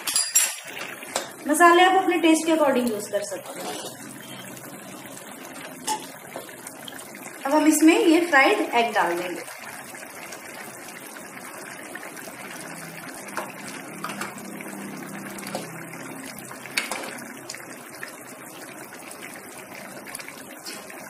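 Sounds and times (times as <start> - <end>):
gravy simmering with hiss: 0.0 - 21.0.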